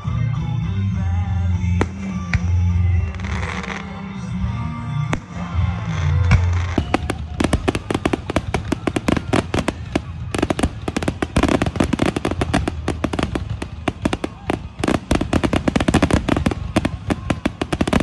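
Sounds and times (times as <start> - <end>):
music playing: 0.0 - 18.0.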